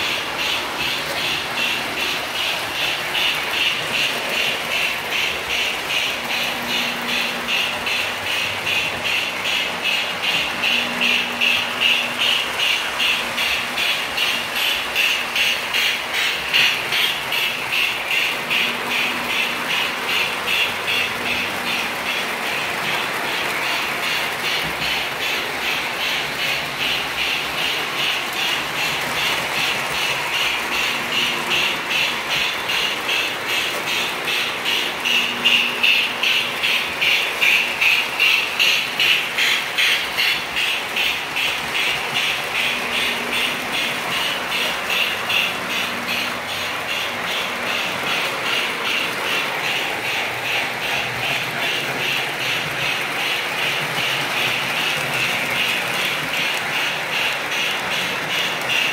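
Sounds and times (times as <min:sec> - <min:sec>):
model train motor drone: 0:00.0 - 0:58.9
wheels clicking over rails: 0:00.0 - 0:58.9.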